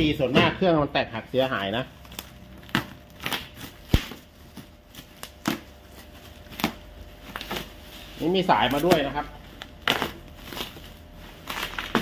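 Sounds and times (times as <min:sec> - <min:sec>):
bubble wrap and tape crinkling: 0:00.9 - 0:12.0.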